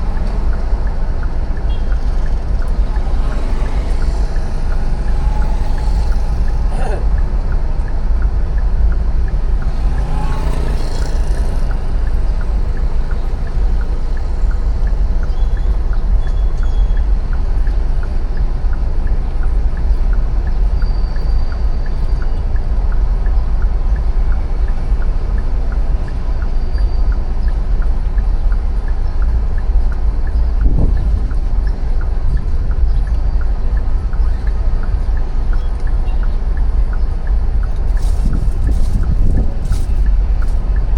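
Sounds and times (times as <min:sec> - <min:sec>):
city street traffic: 0:00.0 - 0:40.9
light ticking: 0:00.0 - 0:40.9
wind rumble on microphone: 0:00.0 - 0:40.9.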